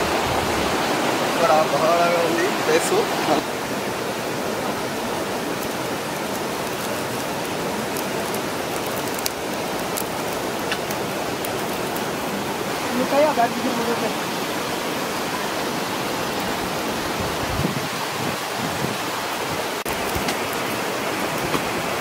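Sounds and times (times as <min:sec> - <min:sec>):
fire rushing hiss: 0:00.0 - 0:22.0
twigs crackling in fire: 0:01.4 - 0:17.7, 0:18.4 - 0:22.0.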